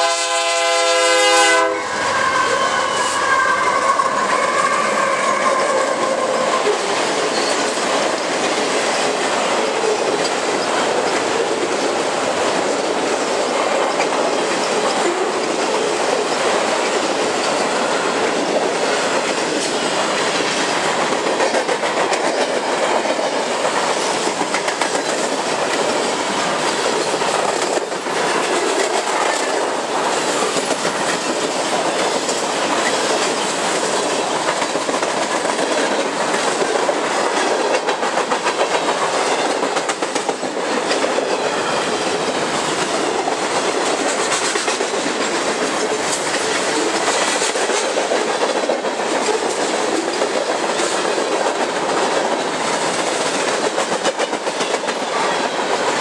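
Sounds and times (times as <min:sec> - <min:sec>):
freight train rolling past: 0:00.0 - 0:56.0
wheels clacking over rail joints: 0:05.9 - 0:56.0.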